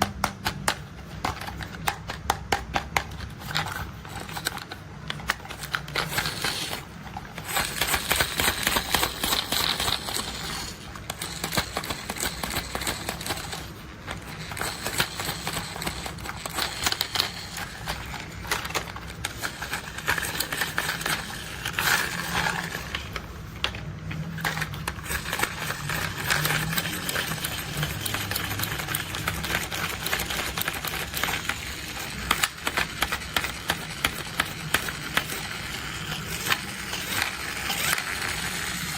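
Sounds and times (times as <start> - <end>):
plastic toys clicking and rattling: 0.0 - 38.9.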